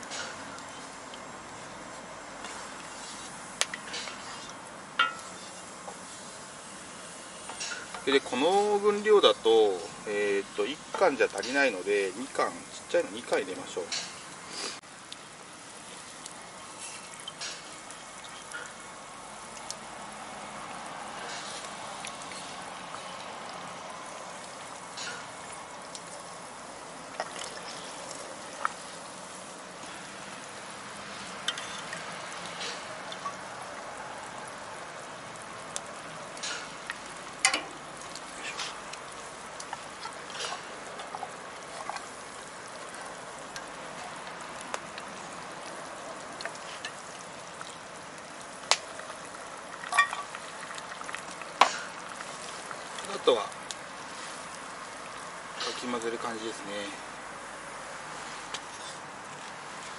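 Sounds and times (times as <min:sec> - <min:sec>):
stew bubbling in a pot: 0:00.0 - 0:59.9
fire pops and crackles: 0:02.4 - 0:08.3, 0:09.9 - 0:56.6, 0:58.3 - 0:59.9.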